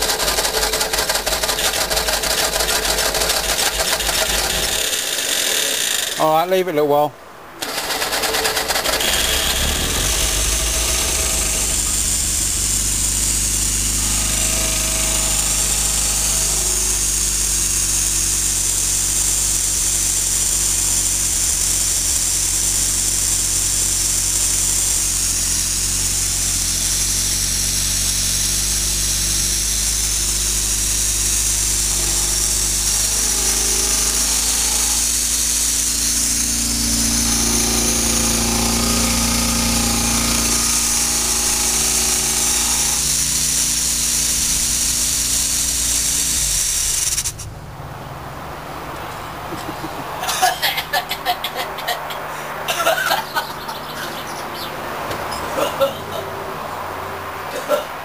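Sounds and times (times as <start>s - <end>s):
car engine idling: 0.0s - 6.3s, 7.2s - 57.8s.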